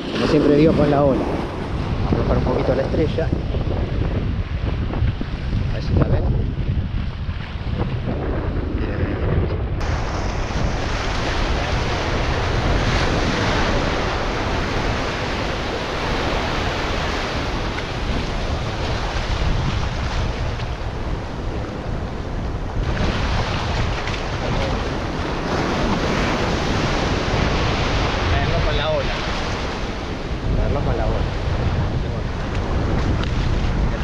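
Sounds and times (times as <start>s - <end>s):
ocean surf breaking on beach: 0.0s - 6.3s, 9.8s - 34.0s
wind rumbling on microphone: 0.0s - 34.0s.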